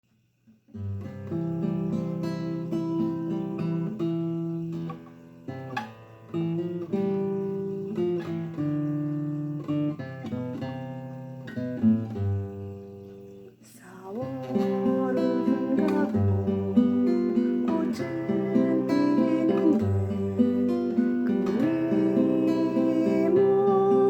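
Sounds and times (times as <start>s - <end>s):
acoustic guitar chords: 0.7s - 24.0s.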